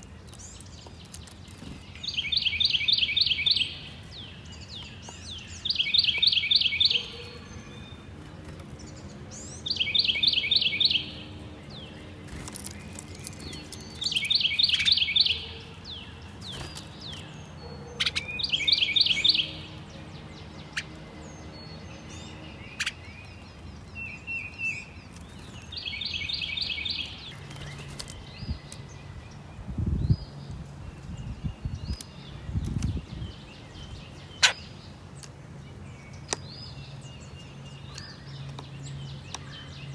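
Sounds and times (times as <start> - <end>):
other birds calling: 0.0 - 29.4, 31.1 - 39.9
songbird trilling: 0.0 - 29.4, 30.0 - 39.9.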